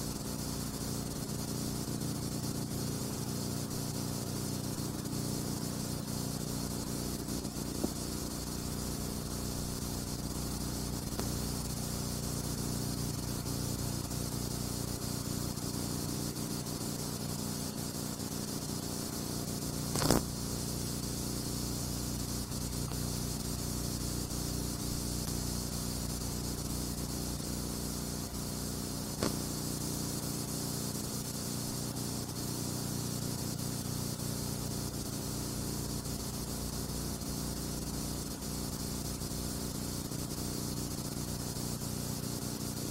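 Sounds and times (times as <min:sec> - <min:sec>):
film hiss and low hum: 0:00.0 - 0:42.9.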